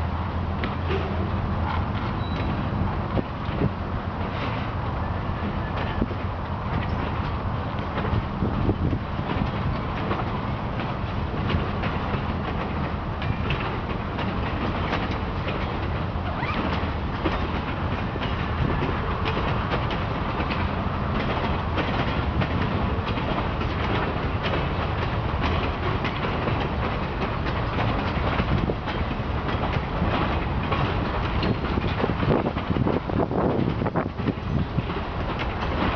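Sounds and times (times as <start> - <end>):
freight train rumbling past: 0.0 - 35.9
wheels clicking over rail joints: 0.0 - 35.9.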